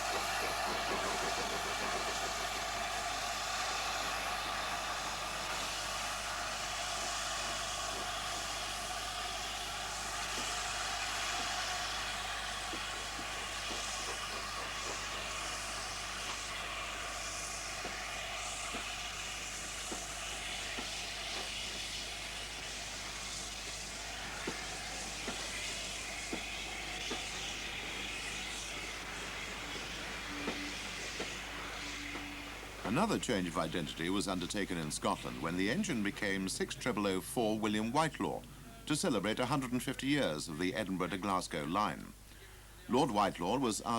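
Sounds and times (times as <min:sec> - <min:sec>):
steam locomotive hissing and running: 0:00.0 - 0:43.9.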